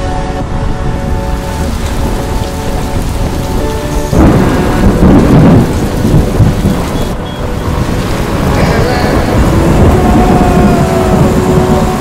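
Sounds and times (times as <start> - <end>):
road and engine noise: 0.0 - 12.0
wind buffeting microphone: 0.0 - 12.0.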